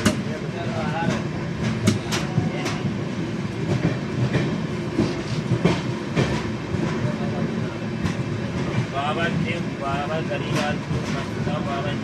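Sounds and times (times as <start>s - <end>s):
train low rumble: 0.0s - 12.0s
train wheels clicking over rail joints: 0.9s - 9.7s, 10.3s - 11.6s.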